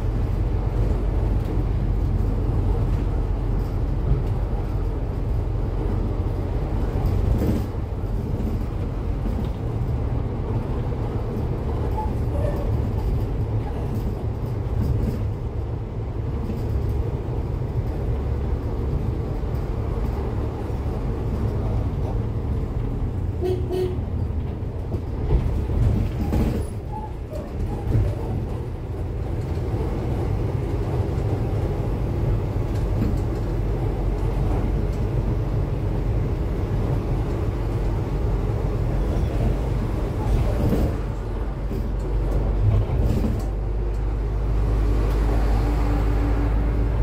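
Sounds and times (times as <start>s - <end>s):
bus diesel engine rumble: 0.0s - 47.0s.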